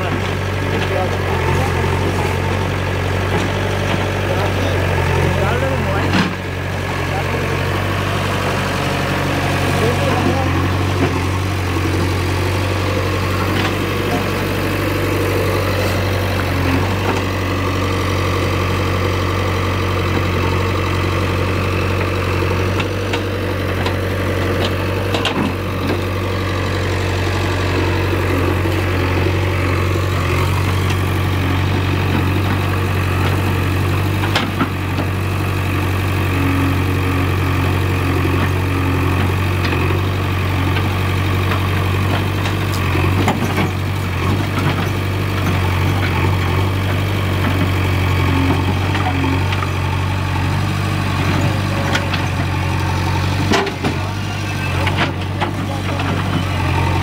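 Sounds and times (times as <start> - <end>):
backhoe digging into dirt: 0.0 - 57.0
diesel engine running: 0.0 - 57.0.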